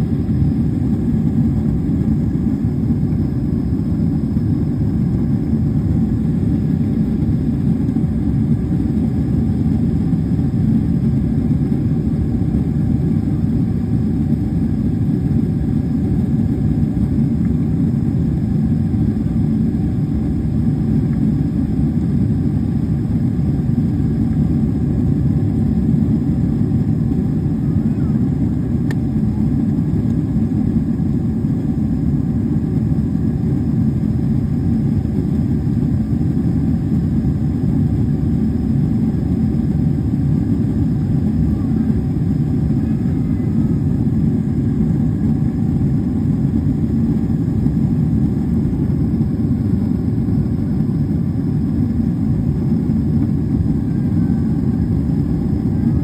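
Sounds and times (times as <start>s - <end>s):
airliner cabin engine roar: 0.0s - 56.0s.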